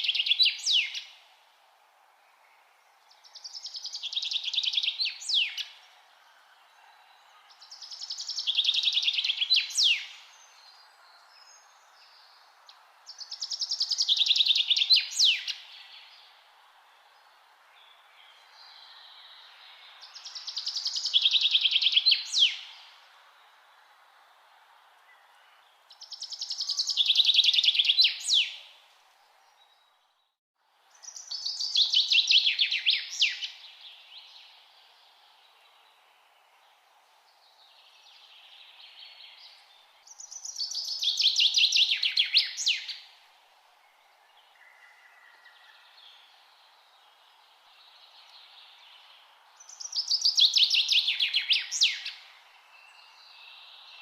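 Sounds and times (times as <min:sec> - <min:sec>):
background hiss: 0:00.0 - 0:54.0
faint birdsong: 0:00.0 - 0:54.0
songbird singing: 0:00.0 - 0:54.0.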